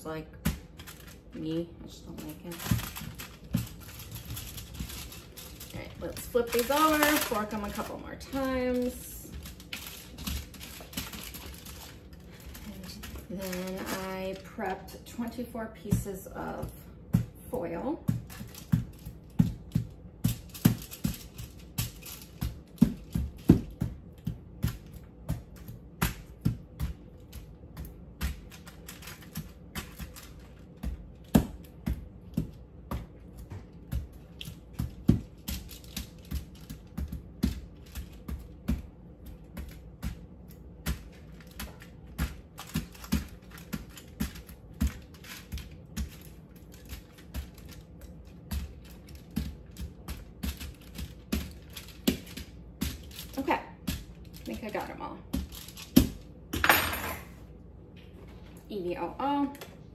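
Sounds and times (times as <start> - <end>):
foil crinkling: 0.6 - 17.0, 18.0 - 56.2.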